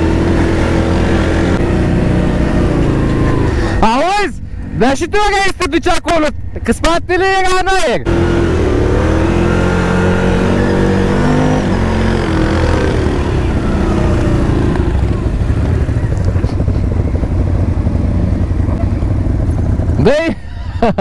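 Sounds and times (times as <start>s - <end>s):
atv engine running: 0.0s - 4.8s, 8.1s - 21.0s.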